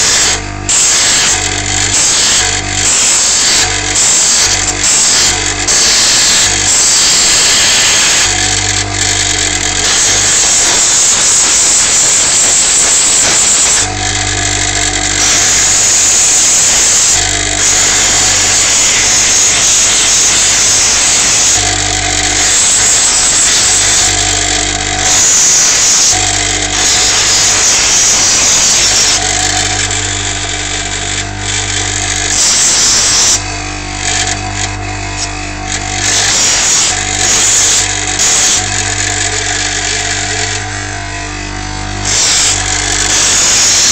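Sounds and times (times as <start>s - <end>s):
motor hum: 0.0s - 43.9s
power tool grinding metal: 0.0s - 43.9s.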